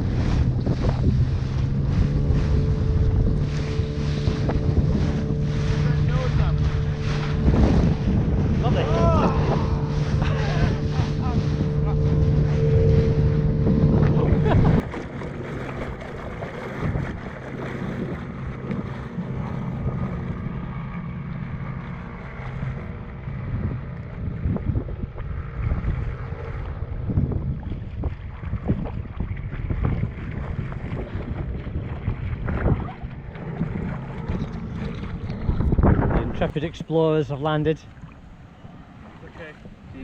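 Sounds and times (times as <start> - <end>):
faint boat engine hum: 0.0 - 40.0
wind buffeting microphone: 0.0 - 40.0.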